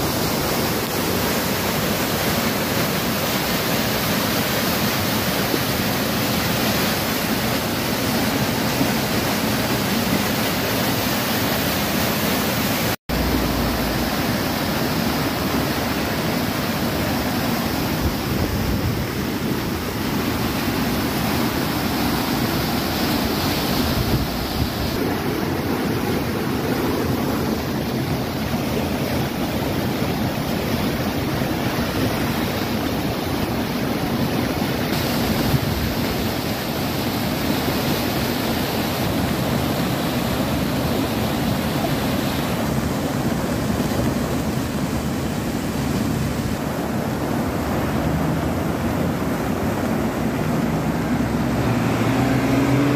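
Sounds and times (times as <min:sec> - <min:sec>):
floodwater rushing: 0:00.0 - 0:52.9.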